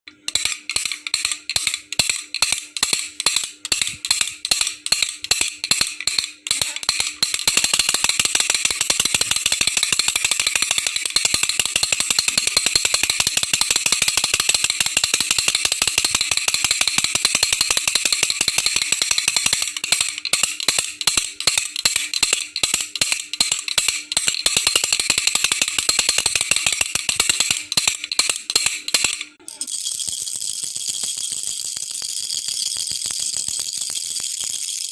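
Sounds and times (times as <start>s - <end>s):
toy rattle being shaken: 0.1s - 34.9s.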